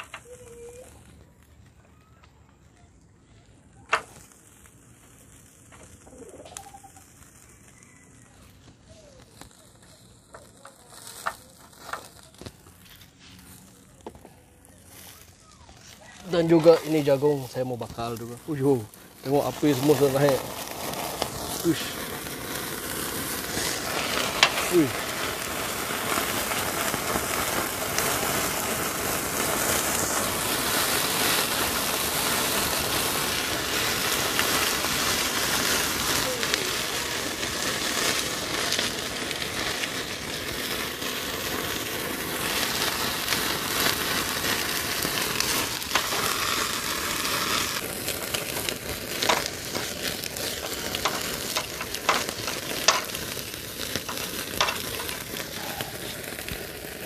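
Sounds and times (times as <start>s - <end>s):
fat sizzling over fire: 0.0s - 57.0s
fire pops and crackles: 0.0s - 57.0s.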